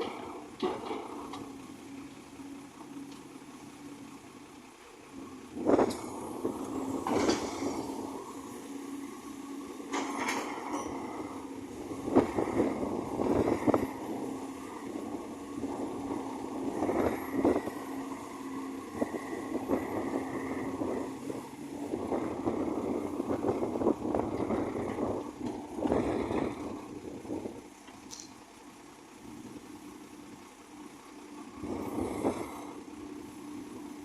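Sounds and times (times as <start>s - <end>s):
high hydraulic whine: 0.0s - 28.6s, 29.2s - 34.0s
excavator diesel engine: 0.0s - 34.0s.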